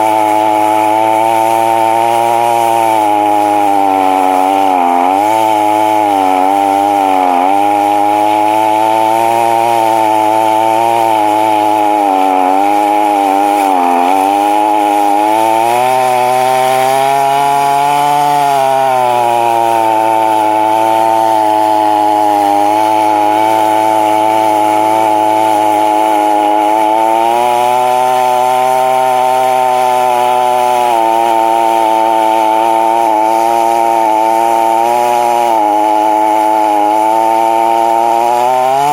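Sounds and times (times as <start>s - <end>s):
chainsaw cutting tree trunk: 0.0s - 38.9s.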